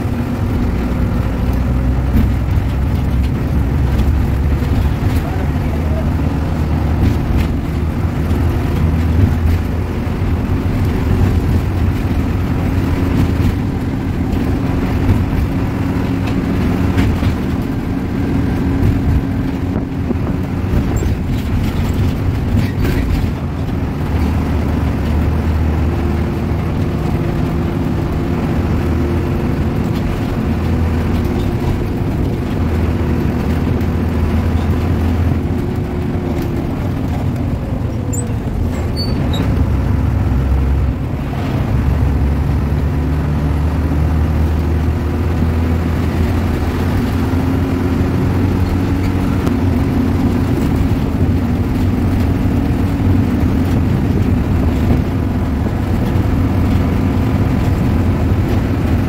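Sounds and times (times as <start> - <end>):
bus engine running hard: 0.0 - 59.0
road and tyre noise: 0.0 - 59.0.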